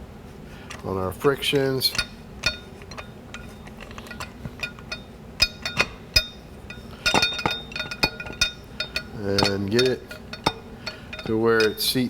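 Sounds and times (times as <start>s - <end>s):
steel parts clinking: 0.6s - 12.0s.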